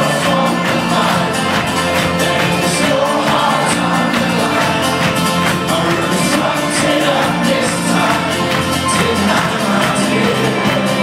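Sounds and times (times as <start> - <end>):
keyboard: 0.0 - 11.0
steady drum beat: 0.0 - 11.0
strummed acoustic guitars: 0.0 - 11.0
upright bass: 0.0 - 11.0.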